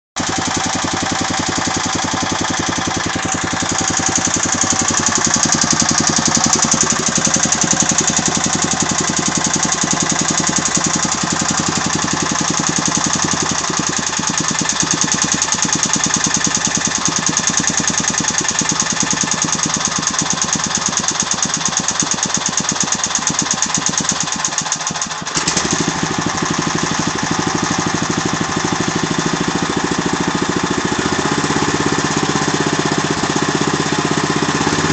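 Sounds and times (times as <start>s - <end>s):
petrol engine knocking: 0.2s - 34.9s.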